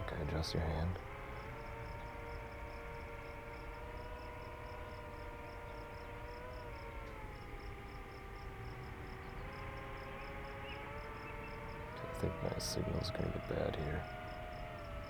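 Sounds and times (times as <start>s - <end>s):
distant drone propeller whine: 0.0s - 15.0s
faint insects chirping: 0.0s - 15.0s.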